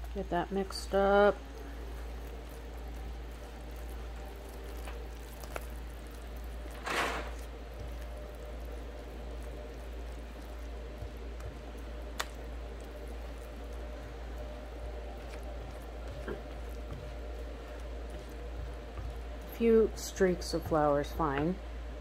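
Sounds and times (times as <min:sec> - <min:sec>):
spatula stirring thick batter: 0:00.0 - 0:21.4.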